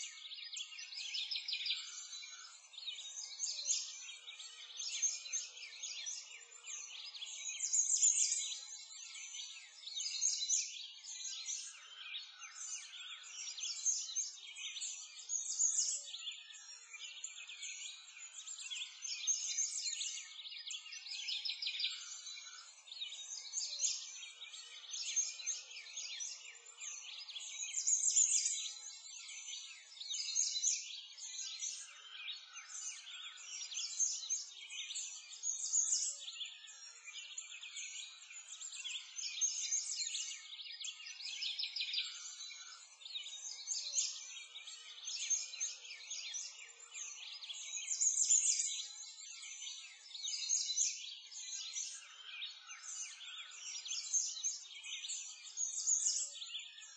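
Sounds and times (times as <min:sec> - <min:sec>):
songbirds chirping and twittering: 0:00.0 - 0:56.9.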